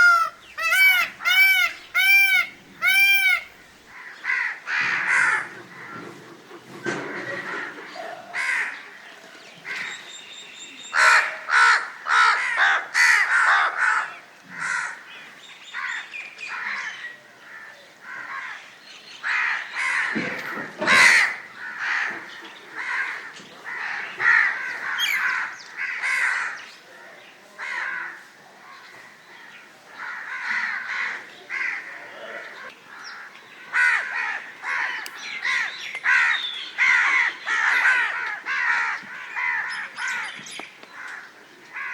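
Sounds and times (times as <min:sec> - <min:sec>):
crows cawing: 0:00.0 - 0:06.0, 0:07.1 - 0:08.9, 0:11.0 - 0:15.1, 0:15.8 - 0:26.6, 0:27.6 - 0:28.2, 0:29.0 - 0:41.9.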